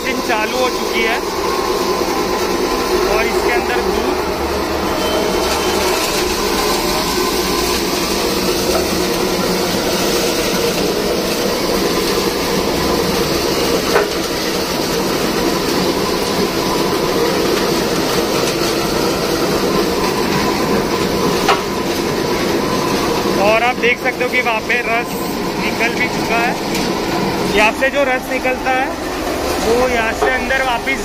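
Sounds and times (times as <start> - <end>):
pulping machine churning: 0.0 - 31.0.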